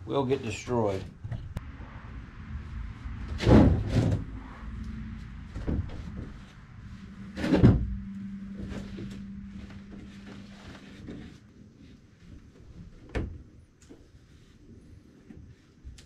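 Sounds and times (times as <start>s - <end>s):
steady low hum: 0.7s - 16.0s.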